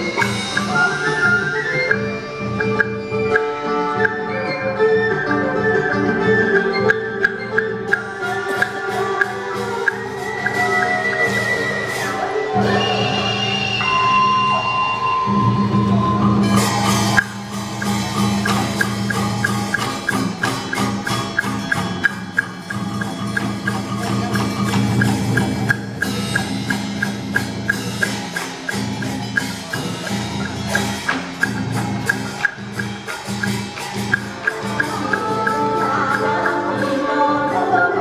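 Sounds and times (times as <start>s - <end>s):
clacking percussion beat: 0.0s - 4.2s, 6.7s - 37.2s.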